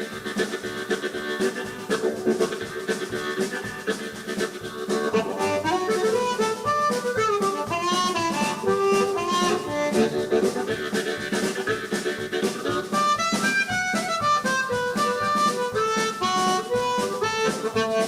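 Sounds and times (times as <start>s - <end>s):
blues band playing live: 0.0s - 18.0s.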